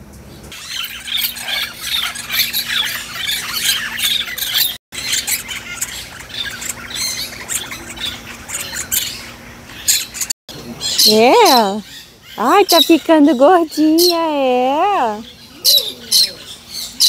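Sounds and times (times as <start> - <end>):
birds squawking and chirping: 0.2 - 17.0.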